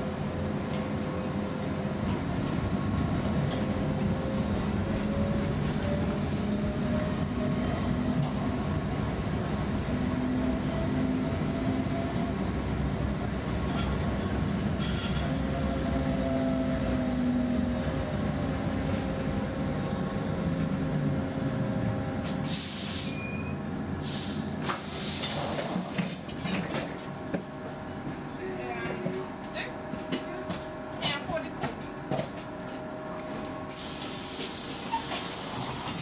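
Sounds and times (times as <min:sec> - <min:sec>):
tram rumble and motor hum: 0:00.0 - 0:36.0.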